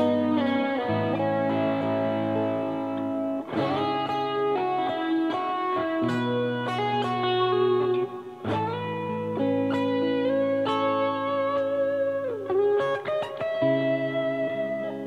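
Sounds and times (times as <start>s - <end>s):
electric guitar solo: 0.0s - 15.0s.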